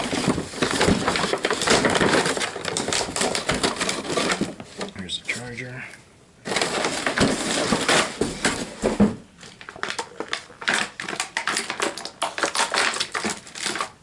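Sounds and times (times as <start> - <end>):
styrofoam crunching and crackling: 0.0 - 5.7, 6.4 - 8.8, 9.4 - 14.0.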